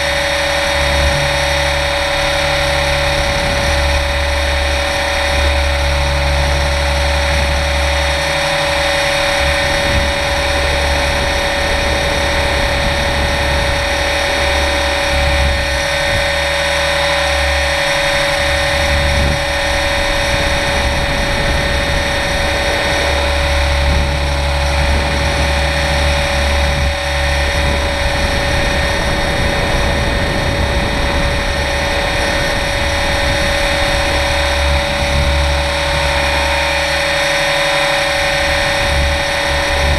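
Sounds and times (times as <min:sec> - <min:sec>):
electric motor whine: 0:00.0 - 0:39.9
low rumble: 0:00.0 - 0:39.9.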